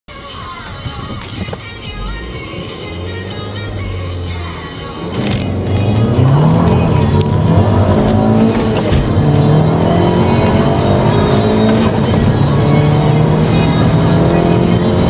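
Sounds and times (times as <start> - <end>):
gear upshifts: 0.6 - 15.0
car engine accelerating hard: 1.7 - 15.0.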